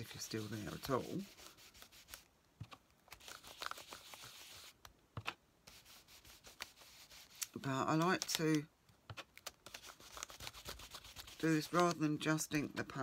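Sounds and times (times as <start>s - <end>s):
paper rustling: 0.0s - 12.1s.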